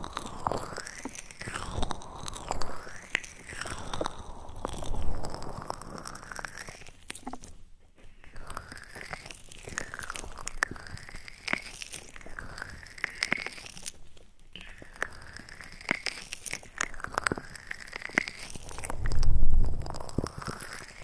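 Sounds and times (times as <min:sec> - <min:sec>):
wet mouth clicks and smacks: 0:00.0 - 0:21.0.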